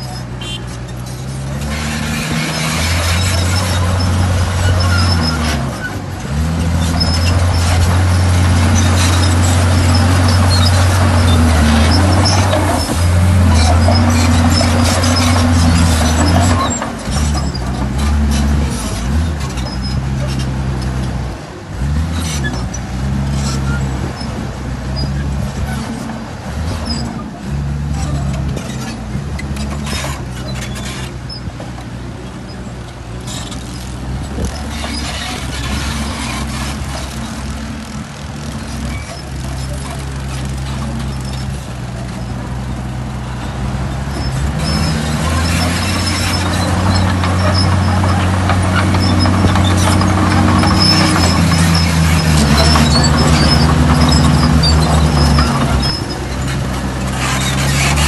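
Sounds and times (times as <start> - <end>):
high metallic squeaking: 0.0 - 21.0, 26.8 - 31.6, 32.2 - 58.0
heavy diesel engine running: 0.0 - 58.0.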